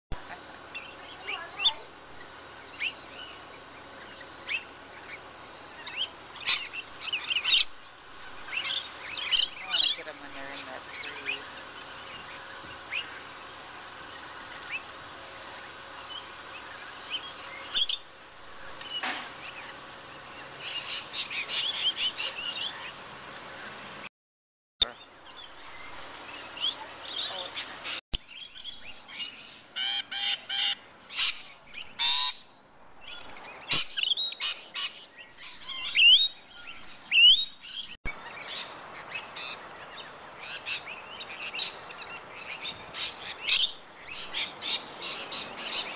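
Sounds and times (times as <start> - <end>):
parrots chirping and screeching: 0.2 - 1.9, 2.6 - 18.1, 18.9 - 23.0, 25.4 - 45.9.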